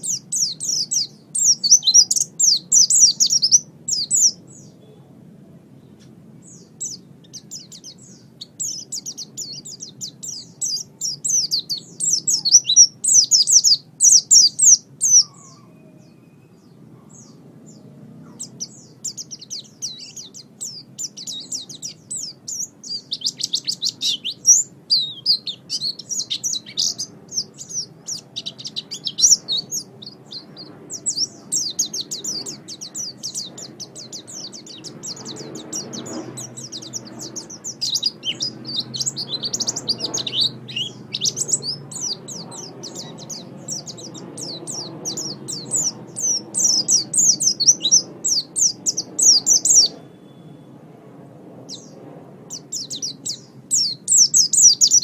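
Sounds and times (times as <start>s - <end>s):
bird twittering chirps: 0.0s - 5.1s, 5.8s - 50.8s, 51.6s - 55.0s.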